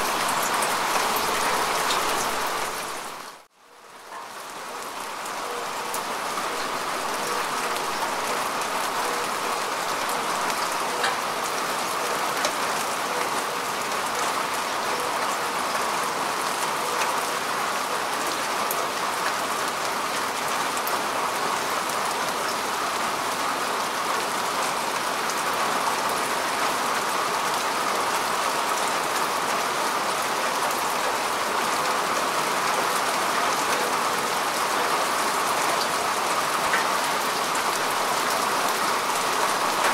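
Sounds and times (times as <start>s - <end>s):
rain falling on grass: 0.0s - 39.9s.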